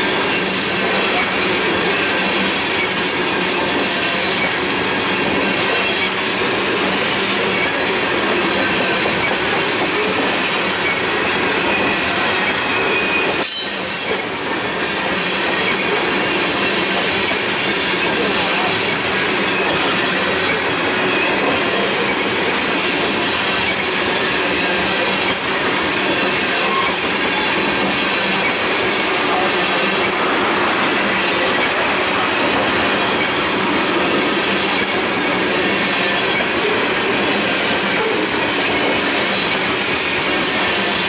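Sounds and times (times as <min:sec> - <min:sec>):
steel wheels rumbling on rail: 0:00.0 - 0:41.0.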